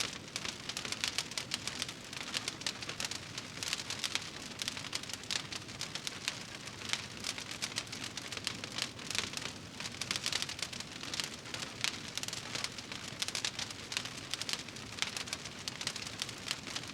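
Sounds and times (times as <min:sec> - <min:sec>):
wood fire crackling: 0:00.0 - 0:16.9.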